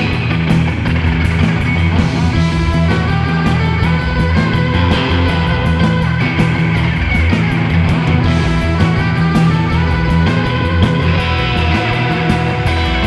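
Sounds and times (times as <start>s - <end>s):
drum kit beat: 0.0s - 13.0s
electric guitars: 0.0s - 13.0s.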